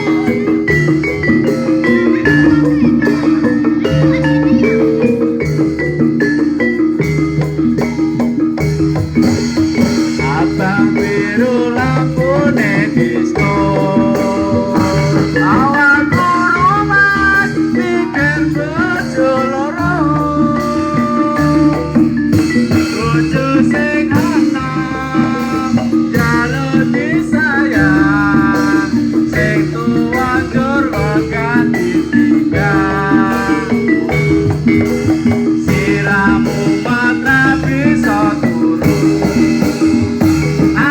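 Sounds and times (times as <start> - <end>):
person singing wavering voice: 0.0 - 7.0, 9.8 - 39.8
metal mallet percussion: 0.0 - 40.9.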